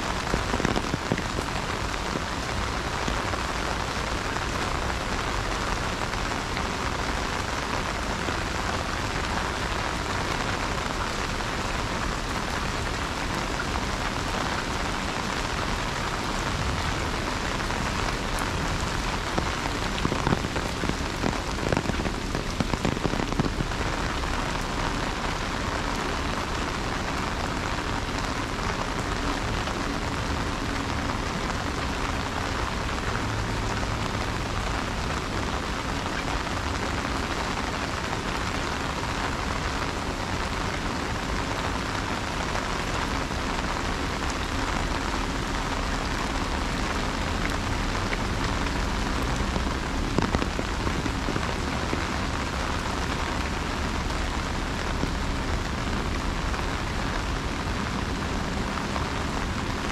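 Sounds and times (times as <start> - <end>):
heavy rain on an umbrella: 0.0 - 59.9.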